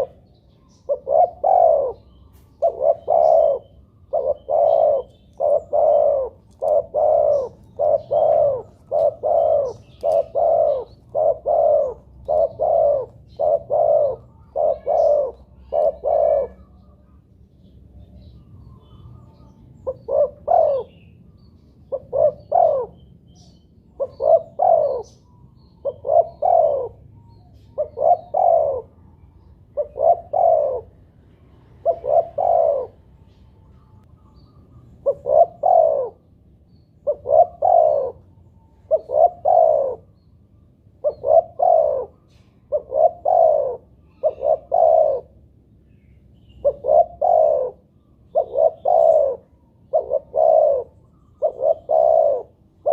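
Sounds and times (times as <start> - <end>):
dove cooing: 0.0 - 40.2, 40.8 - 45.6, 46.4 - 52.9.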